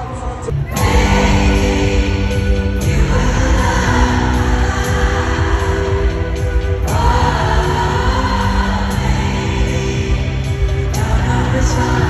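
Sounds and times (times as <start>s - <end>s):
live pop band music: 0.0s - 12.0s
heavy bass beat: 0.4s - 12.0s.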